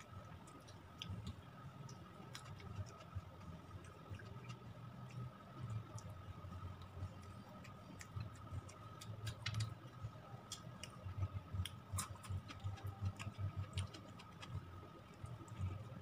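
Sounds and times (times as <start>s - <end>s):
chewing clicks and smacks: 0.0s - 16.0s.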